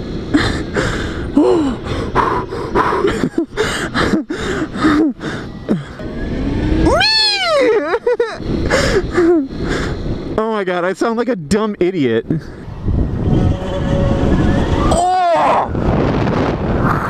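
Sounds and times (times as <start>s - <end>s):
wind on microphone: 0.0s - 10.4s, 12.2s - 17.0s.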